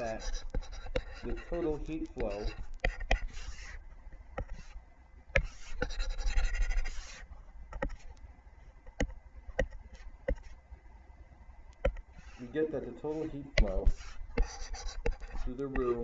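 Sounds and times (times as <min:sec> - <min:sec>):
stylus scratching on touchscreen: 0:00.0 - 0:03.8, 0:04.4 - 0:04.8, 0:05.4 - 0:08.2, 0:08.9 - 0:10.6, 0:11.8 - 0:16.0.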